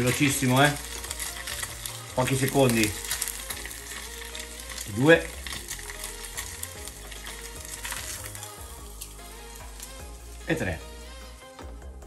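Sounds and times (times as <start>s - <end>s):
fish skin sizzling in oil: 0.0s - 11.7s.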